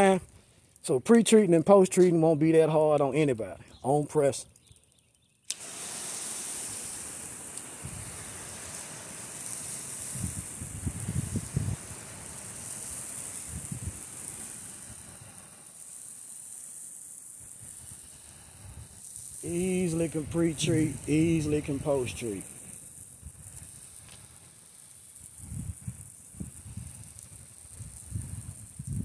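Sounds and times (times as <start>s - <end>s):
spray gun hissing water: 5.5s - 29.0s.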